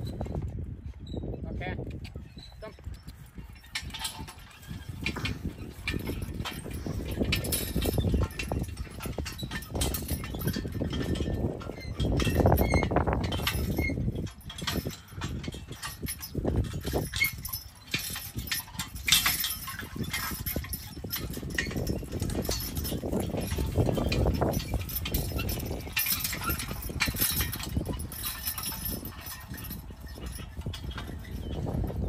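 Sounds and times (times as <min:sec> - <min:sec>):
wagon wheels and frame rattling: 0:00.0 - 0:32.0.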